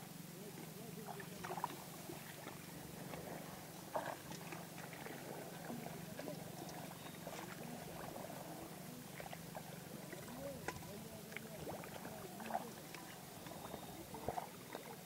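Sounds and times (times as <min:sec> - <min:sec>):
steady low hum: 0:00.0 - 0:15.0
water splashes: 0:00.8 - 0:15.0
hands sloshing in muddy water: 0:01.2 - 0:15.0.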